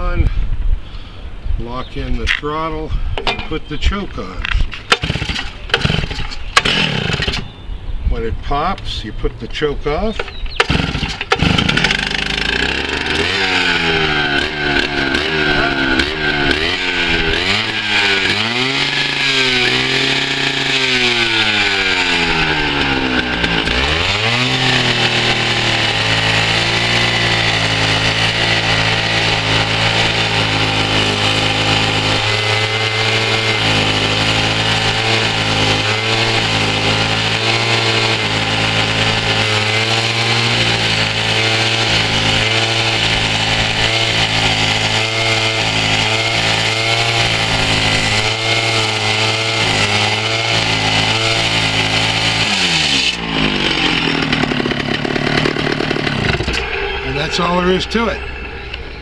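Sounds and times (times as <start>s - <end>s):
saw engine revving: 3.4s - 59.0s.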